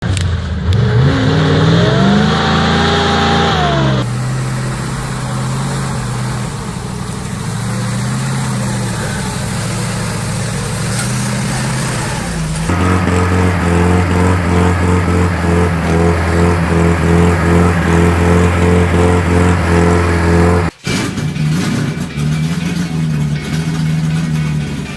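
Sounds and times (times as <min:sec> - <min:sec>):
truck engine revving hard: 0:00.0 - 0:24.9.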